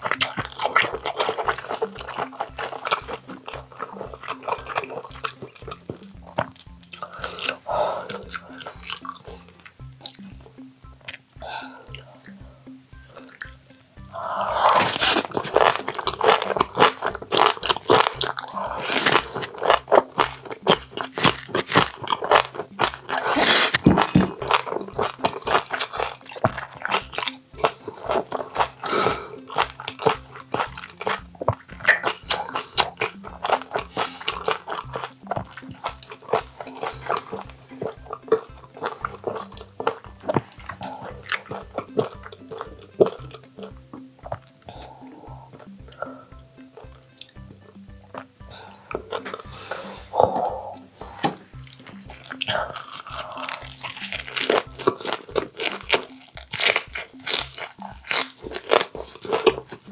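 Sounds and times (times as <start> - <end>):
background music with steady beat: 0.0 - 59.9
wet crunchy chewing: 0.0 - 59.9.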